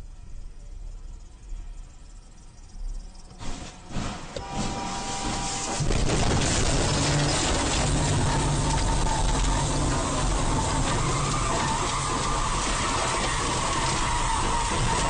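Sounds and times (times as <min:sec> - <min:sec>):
moving vehicle rush and rumble: 0:02.2 - 0:15.0.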